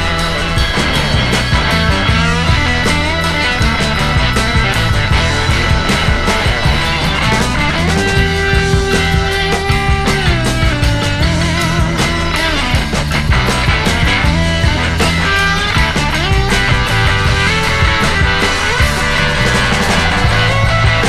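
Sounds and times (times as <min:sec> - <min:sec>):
rock music with electric guitar: 0:00.0 - 0:21.0.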